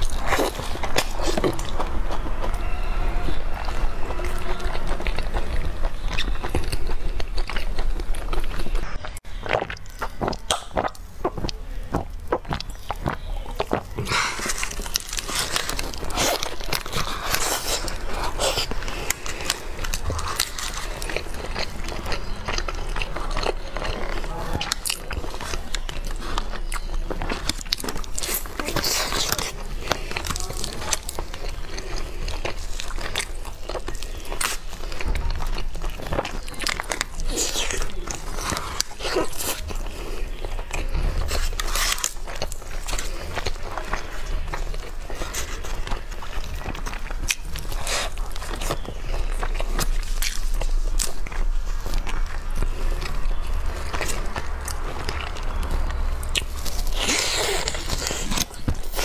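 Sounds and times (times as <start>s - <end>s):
biting and chewing: 0.0s - 59.0s
crunching chicken skin: 0.0s - 59.0s
meat tearing: 0.0s - 59.0s.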